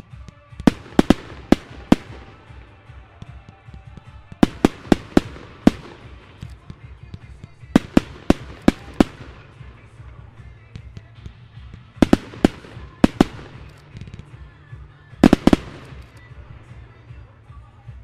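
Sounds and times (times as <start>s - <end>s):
fireworks bangs: 0.5s - 17.3s.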